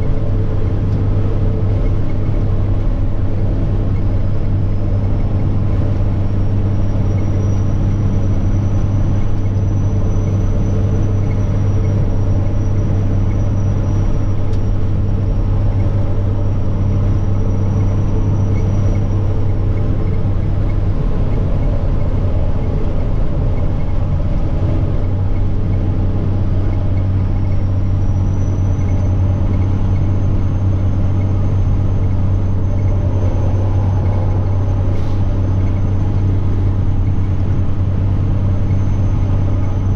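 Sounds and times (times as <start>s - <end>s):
diesel truck engine drone: 0.0s - 39.9s
turbocharger whine: 0.0s - 39.9s.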